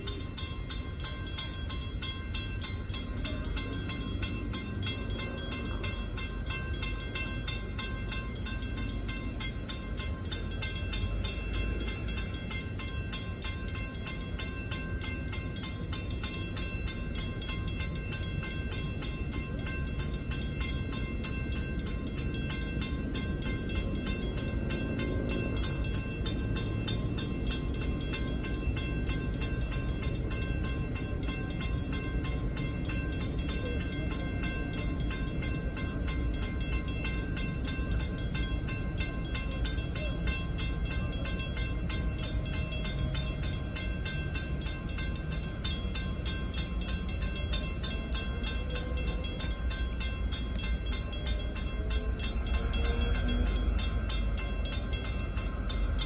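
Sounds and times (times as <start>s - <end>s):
freight train rumble: 0.0s - 56.0s
railroad bell ringing: 0.0s - 56.0s.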